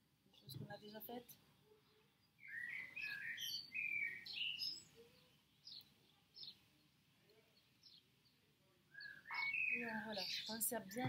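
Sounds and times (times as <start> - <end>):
bird chirping: 0.3 - 11.0.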